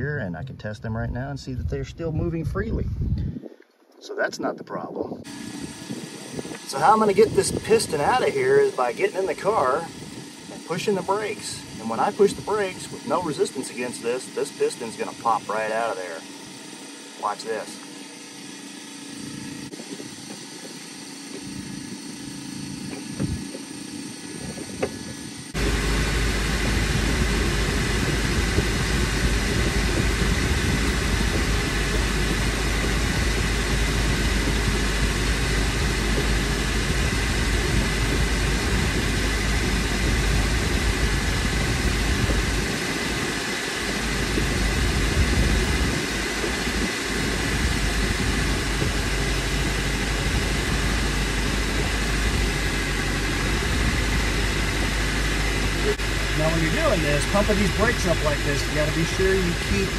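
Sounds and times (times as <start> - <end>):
car engine idling: 5.2 - 59.9.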